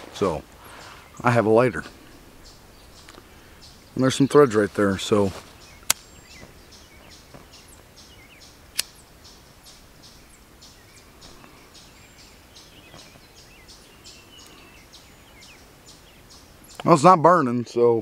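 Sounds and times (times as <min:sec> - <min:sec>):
birds: 0:00.0 - 0:18.0.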